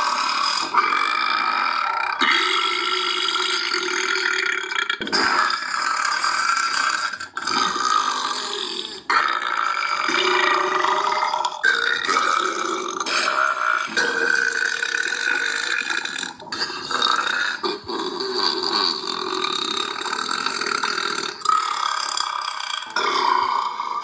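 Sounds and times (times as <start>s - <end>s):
long drawn-out burps: 0.0s - 24.0s.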